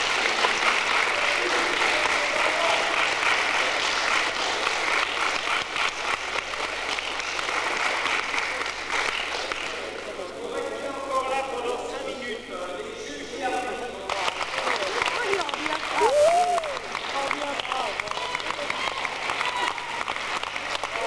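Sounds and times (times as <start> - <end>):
audience applauding: 0.0 - 10.2, 14.1 - 21.0.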